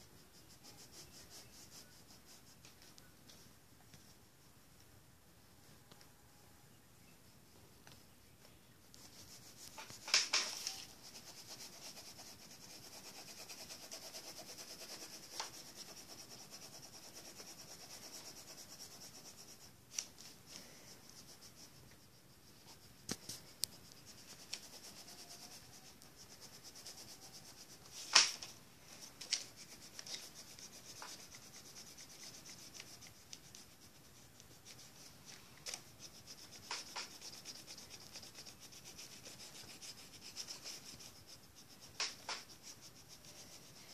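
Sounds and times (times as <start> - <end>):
pencil scribbling on paper: 0.0 - 3.0, 8.9 - 19.8, 20.9 - 28.2, 28.9 - 43.9.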